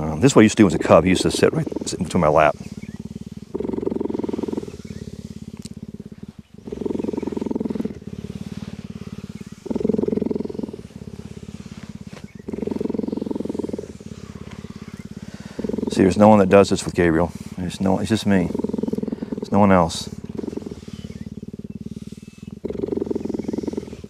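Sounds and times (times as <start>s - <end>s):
cheetah purring: 0.0s - 24.0s.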